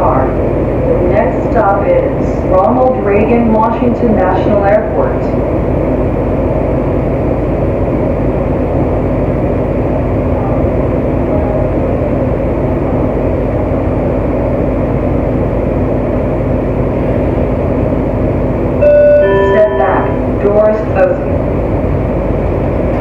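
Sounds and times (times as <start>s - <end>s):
train car humming: 0.0s - 23.0s.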